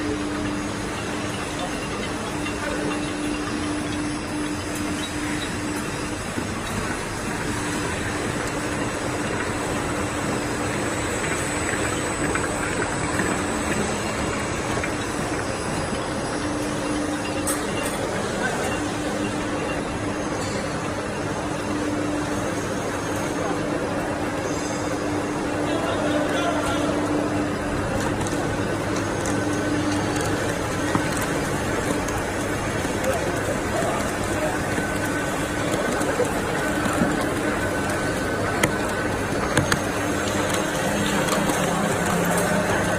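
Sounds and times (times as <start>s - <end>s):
production line machinery running: 0.0s - 42.9s.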